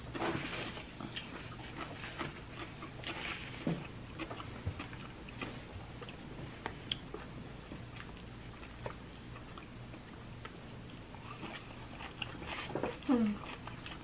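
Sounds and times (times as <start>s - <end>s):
chewing raw salad: 0.0s - 14.0s.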